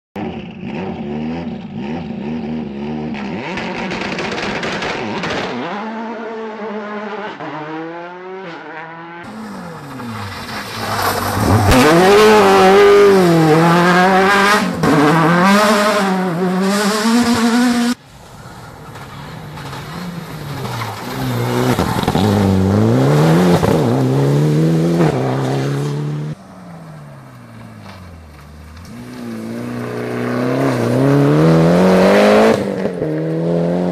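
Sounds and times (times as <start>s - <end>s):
rally car engines revving: 0.2s - 33.9s.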